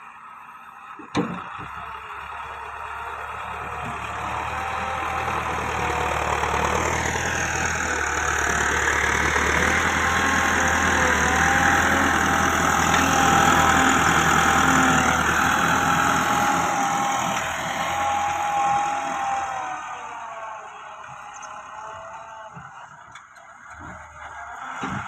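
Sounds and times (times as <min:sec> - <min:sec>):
tractor diesel engine running: 0:00.1 - 0:25.0.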